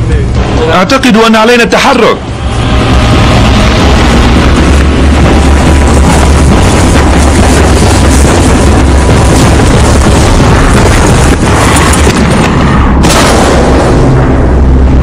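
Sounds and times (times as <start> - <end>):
loud booming rumble: 0.0 - 15.0.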